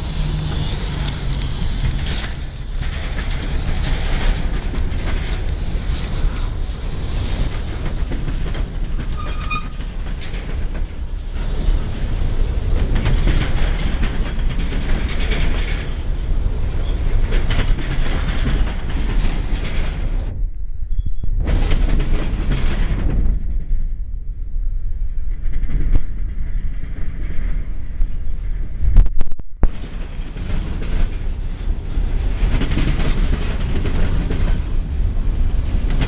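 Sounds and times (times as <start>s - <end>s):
train wheels rumbling and clacking: 0.0s - 36.0s.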